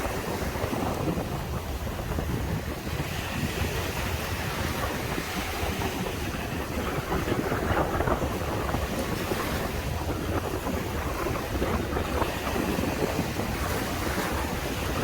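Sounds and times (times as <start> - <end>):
waves breaking on beach: 0.0 - 15.0
wind buffeting microphone: 0.0 - 15.0.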